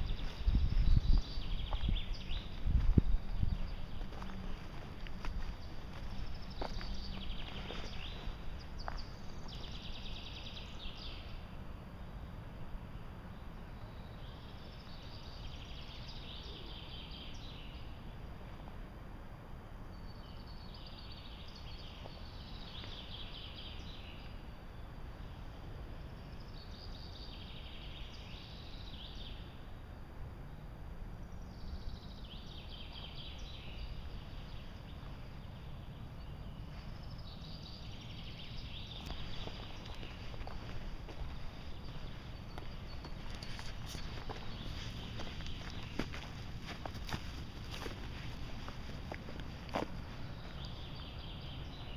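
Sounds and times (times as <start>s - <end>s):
low outdoor rumble: 0.0s - 51.9s.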